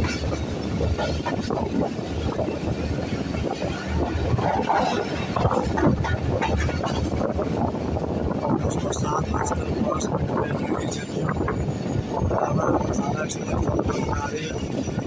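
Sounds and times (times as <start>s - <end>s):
train clacks and rattles: 0.0s - 15.0s
train wheels rumbling on rail: 0.0s - 15.0s.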